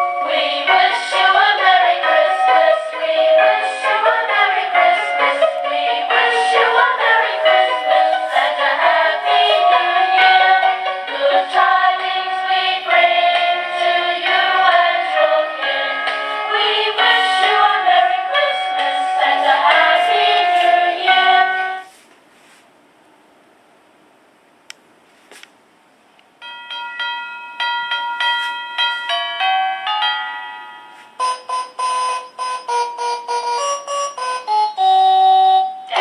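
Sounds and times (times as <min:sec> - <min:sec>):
christmas song from small speaker: 0:00.0 - 0:22.0, 0:26.4 - 0:36.0.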